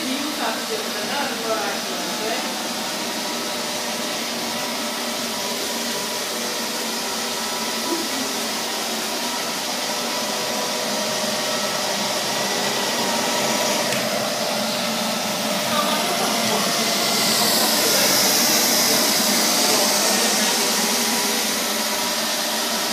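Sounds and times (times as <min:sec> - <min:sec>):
robot vacuum cleaner running: 0:00.0 - 0:22.9.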